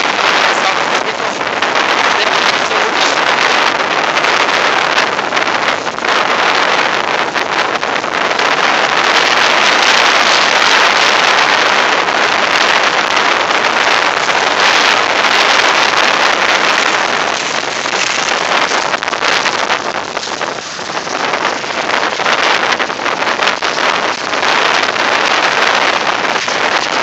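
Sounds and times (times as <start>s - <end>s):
hurricane wind: 0.0s - 27.0s
rain: 0.0s - 27.0s
wind buffeting microphone: 0.0s - 27.0s.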